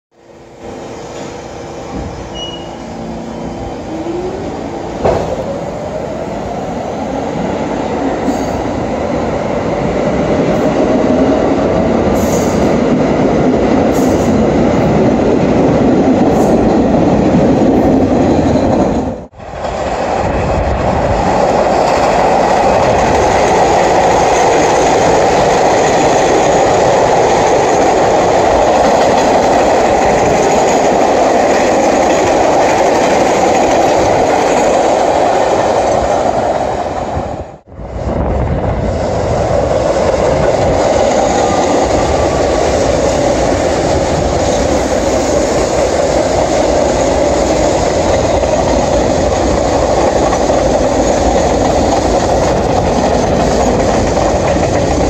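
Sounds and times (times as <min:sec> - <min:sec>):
train wheel and rail noise: 0:00.1 - 0:55.0
subway motors whining: 0:00.2 - 0:55.0.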